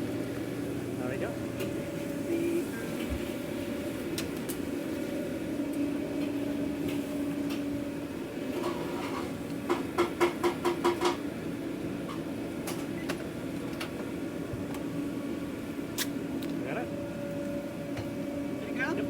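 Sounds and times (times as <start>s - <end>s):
equipment hum: 0.0s - 19.0s.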